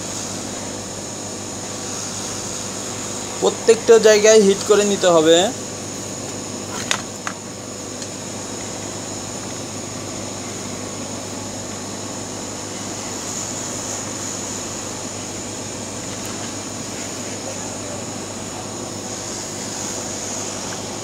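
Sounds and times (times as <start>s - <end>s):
hot air gun blowing: 0.0s - 7.4s, 8.0s - 21.0s.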